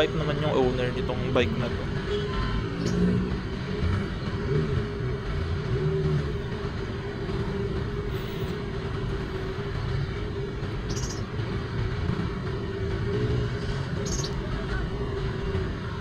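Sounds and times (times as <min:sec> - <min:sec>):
motorcycle engine running: 0:00.0 - 0:16.0
road traffic: 0:00.0 - 0:16.0.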